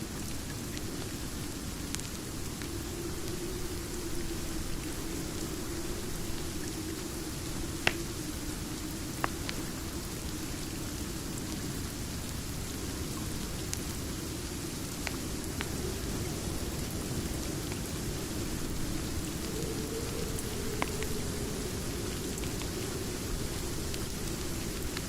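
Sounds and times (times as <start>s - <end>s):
steady rain: 0.0s - 25.0s
wood fire crackling: 0.3s - 25.0s.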